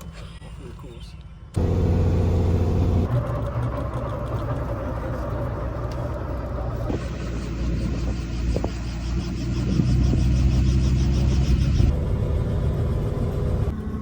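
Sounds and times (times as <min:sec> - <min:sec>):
helicopter engine starting up: 0:01.6 - 0:14.0.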